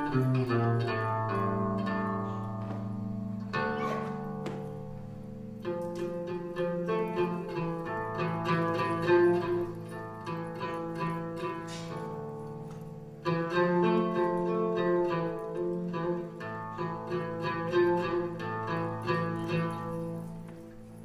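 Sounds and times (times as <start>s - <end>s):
plucked string instrument music: 0.0s - 21.0s.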